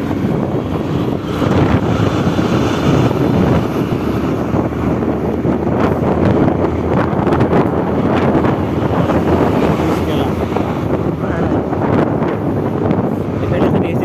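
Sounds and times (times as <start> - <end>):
motorcycle engine: 0.0 - 13.6
road noise: 0.0 - 14.0
wind rush on microphone: 0.0 - 14.0.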